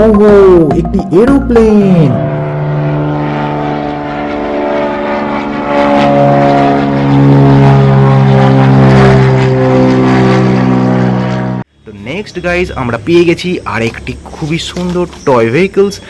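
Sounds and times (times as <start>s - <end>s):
propeller aeroplane engine drone: 1.5s - 16.0s.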